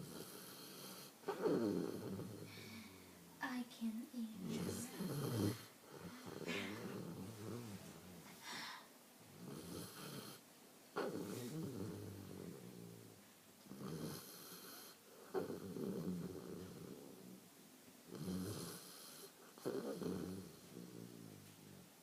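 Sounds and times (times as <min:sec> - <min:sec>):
rasping snores: 0:00.0 - 0:03.2, 0:04.4 - 0:08.2, 0:09.4 - 0:10.4, 0:11.0 - 0:13.1, 0:13.7 - 0:17.4, 0:18.1 - 0:21.9.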